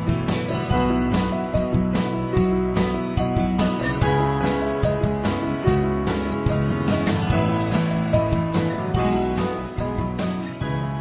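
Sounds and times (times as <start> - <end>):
acoustic guitar music with beat: 0.0 - 11.0.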